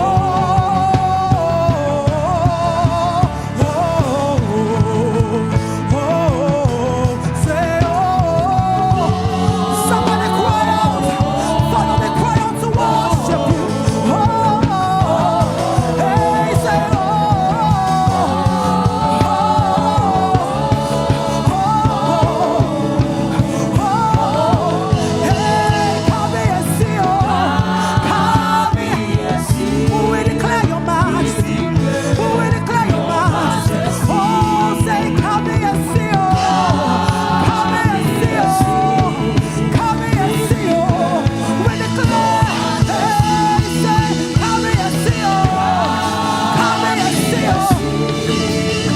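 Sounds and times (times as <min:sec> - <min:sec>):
band playing steady beat: 0:00.0 - 0:48.9
singing: 0:00.0 - 0:48.9.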